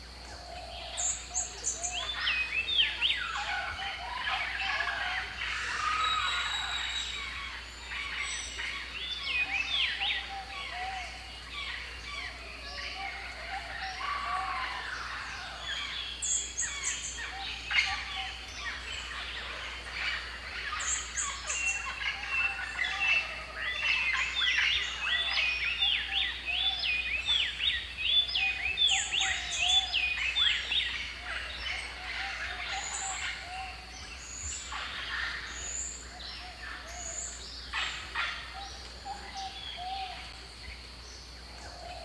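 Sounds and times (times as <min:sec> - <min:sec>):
birds chirping chorus: 0:00.0 - 0:42.0.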